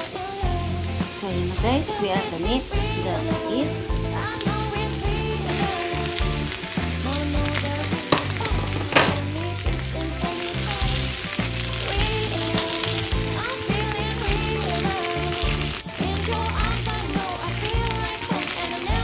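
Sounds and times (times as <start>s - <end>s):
background music: 0.0s - 19.0s
beef sizzling in hot oil: 0.0s - 19.0s.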